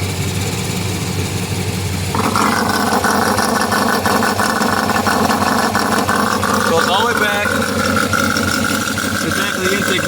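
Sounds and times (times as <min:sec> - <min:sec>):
car engine idling: 0:00.0 - 0:10.0
ticking exhaust leak: 0:00.0 - 0:10.0.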